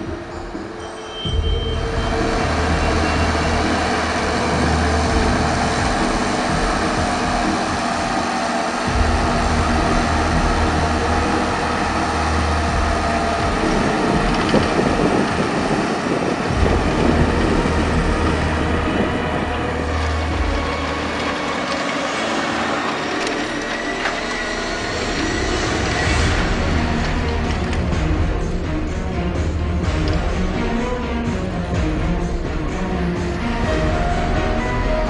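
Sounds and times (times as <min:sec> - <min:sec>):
plough turning earth rumble: 0:00.0 - 0:35.0
tractor diesel engine running: 0:00.0 - 0:35.0.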